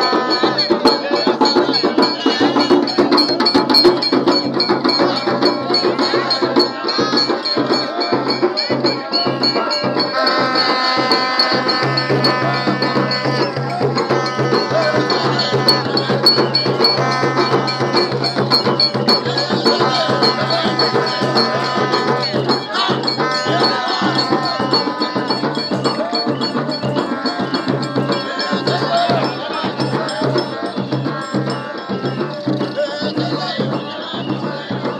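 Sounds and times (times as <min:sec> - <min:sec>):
crowd singing: 0:00.0 - 0:34.9
frame drums beating: 0:00.0 - 0:34.9.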